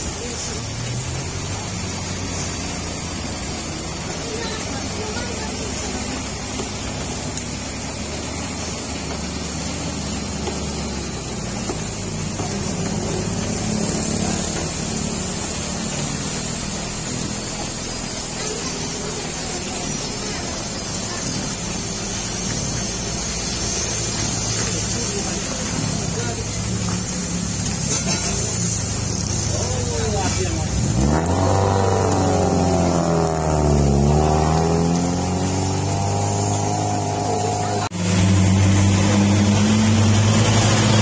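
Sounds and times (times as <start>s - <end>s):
diesel truck engine under load: 0.0s - 41.0s
rain and tyres on wet road: 0.0s - 41.0s.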